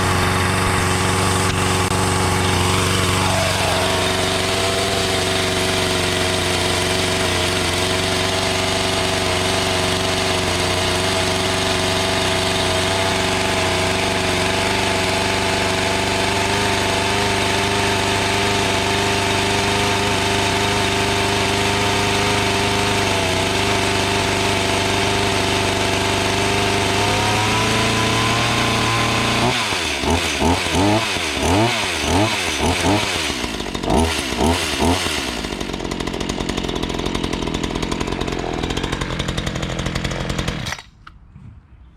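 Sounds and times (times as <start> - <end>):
chainsaw engine idling and revving: 0.0 - 41.1.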